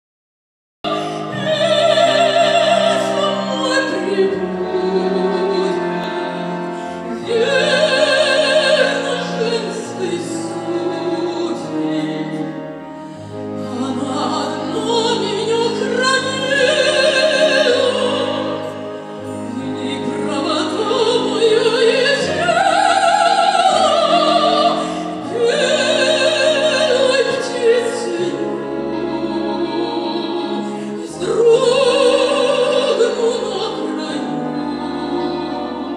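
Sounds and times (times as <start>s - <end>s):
woman singing operatic style: 0.8s - 12.5s, 13.6s - 35.9s
brass and wind band: 0.9s - 35.9s.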